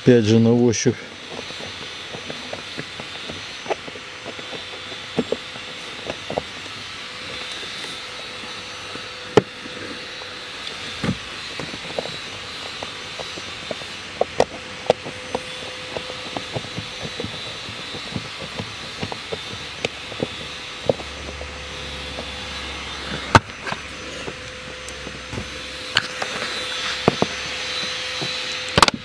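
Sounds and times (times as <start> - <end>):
small clicks and knocks on plastic: 1.2 - 29.0.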